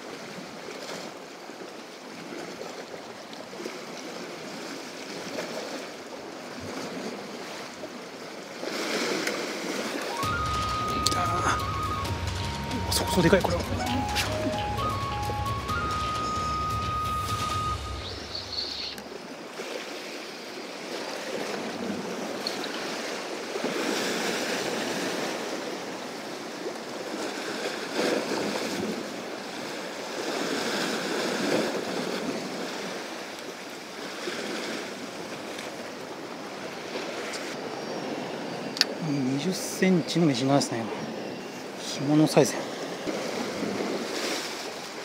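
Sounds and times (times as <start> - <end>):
surf washing against rocks: 0.0 - 45.0.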